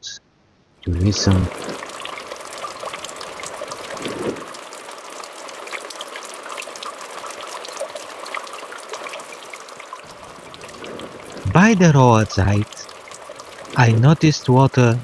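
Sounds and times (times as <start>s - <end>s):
water trickling down rock: 0.8s - 15.0s.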